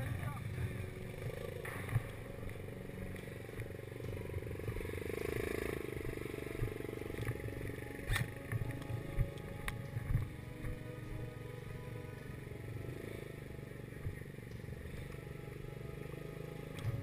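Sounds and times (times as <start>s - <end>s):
buggy engine running: 0.0s - 17.0s.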